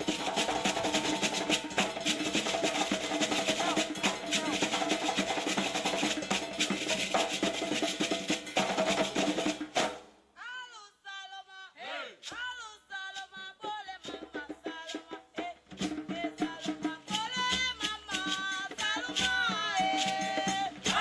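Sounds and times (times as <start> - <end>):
fast dance drumming: 0.0 - 10.0, 13.6 - 21.0.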